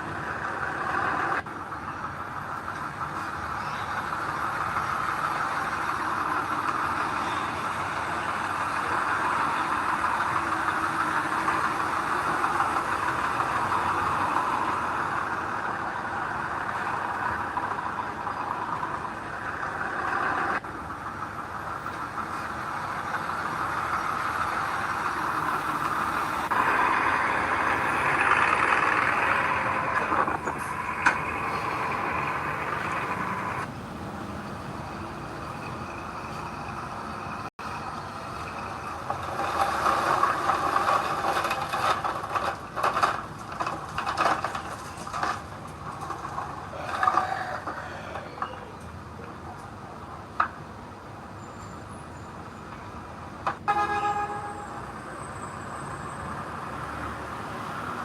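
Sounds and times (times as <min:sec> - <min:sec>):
heavy machinery engine running: 0:00.0 - 0:50.4.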